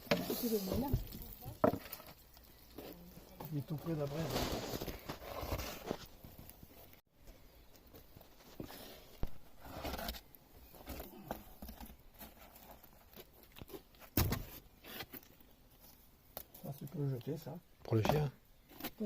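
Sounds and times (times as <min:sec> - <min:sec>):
handling knocks and scrapes: 0:00.0 - 0:16.8.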